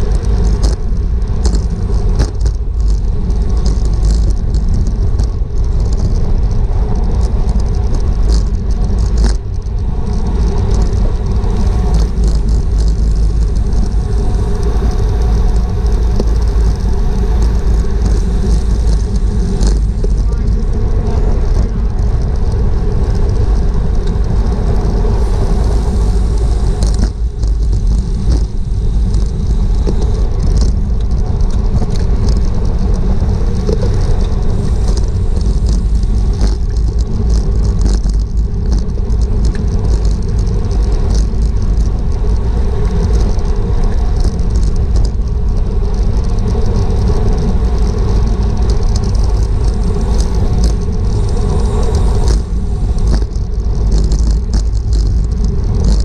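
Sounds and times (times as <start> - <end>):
heavy wind rumble: 0.0 - 56.0.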